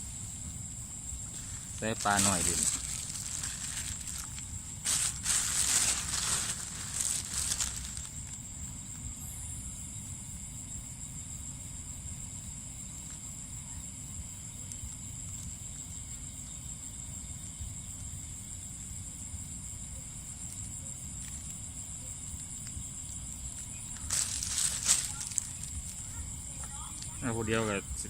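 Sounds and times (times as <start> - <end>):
night insects trilling: 0.0 - 28.0.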